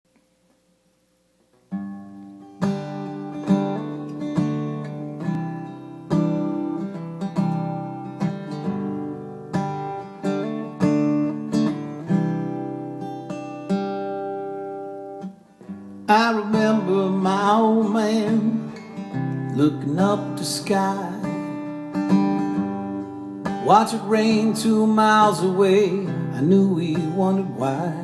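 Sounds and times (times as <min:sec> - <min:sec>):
acoustic guitar strumming: 0:01.5 - 0:28.0.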